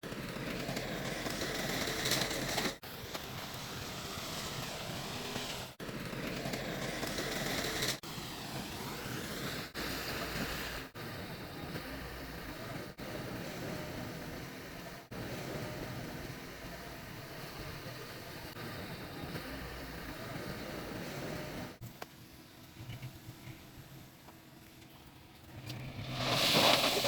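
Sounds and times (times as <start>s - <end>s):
heavy machinery engine with hiss: 1.0s - 5.8s, 6.4s - 21.8s, 25.6s - 27.0s.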